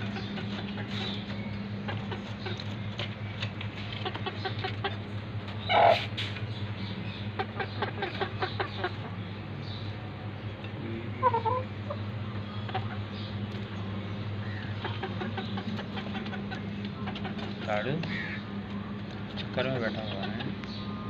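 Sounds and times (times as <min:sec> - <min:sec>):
chickens clucking: 0:00.0 - 0:21.0
steady low hum: 0:00.0 - 0:21.0.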